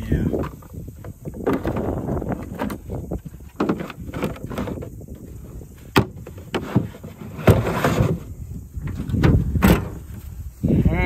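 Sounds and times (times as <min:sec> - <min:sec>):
plastic knocking and shuffling: 0:00.3 - 0:10.2.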